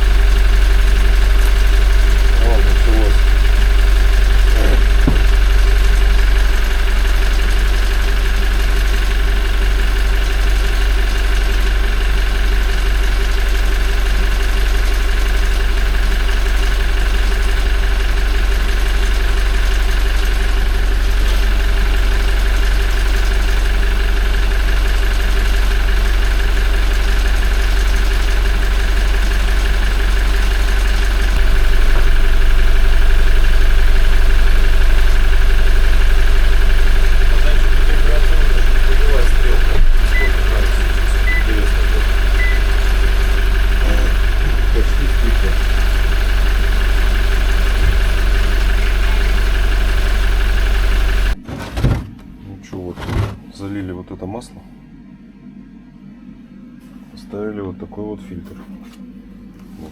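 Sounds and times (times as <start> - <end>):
diesel engine idling: 0.0 - 53.6.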